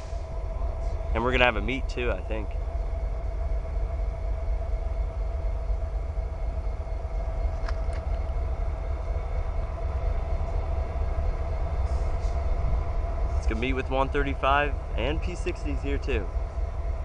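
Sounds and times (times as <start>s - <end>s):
locomotive low rumble: 0.0s - 17.0s
locomotive whine: 0.0s - 17.0s.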